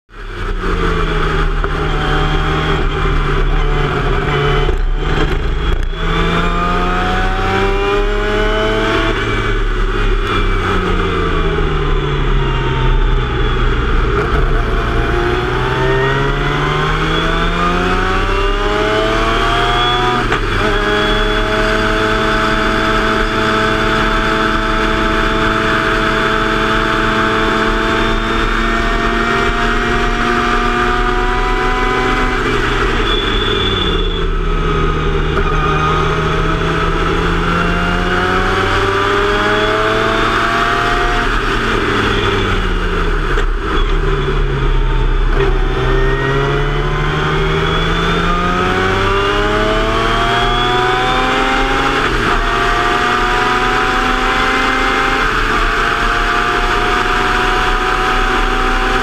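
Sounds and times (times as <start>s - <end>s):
race car engine revving: 0.1s - 59.0s.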